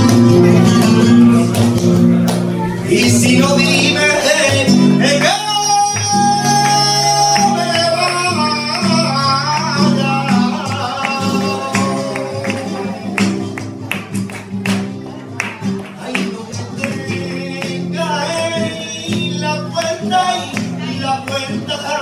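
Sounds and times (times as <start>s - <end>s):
palmas handclaps: 0.0s - 21.8s
flamenco guitar: 0.0s - 22.0s
flamenco singing: 0.0s - 22.0s.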